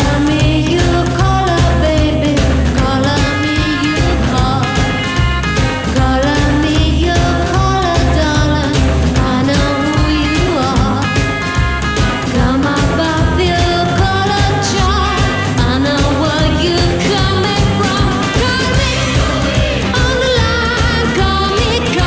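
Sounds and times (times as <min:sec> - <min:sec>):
person singing: 0:00.0 - 0:11.4, 0:12.3 - 0:22.0
rockabilly band playing: 0:00.0 - 0:22.0.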